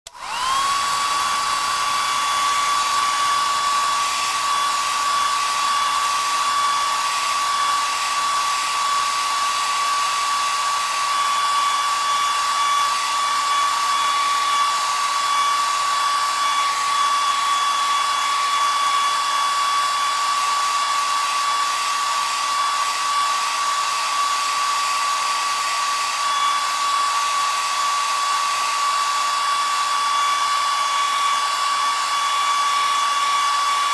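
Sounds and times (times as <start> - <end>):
hair dryer whining: 0.0 - 33.9.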